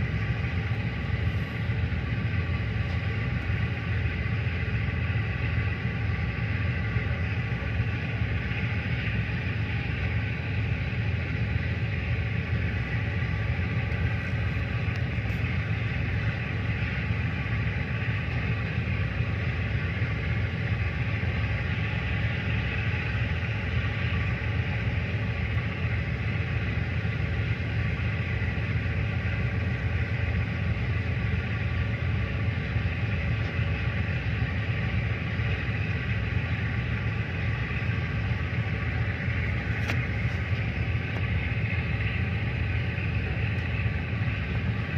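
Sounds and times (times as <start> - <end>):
tugboat engine rumbling: 0.0 - 44.9.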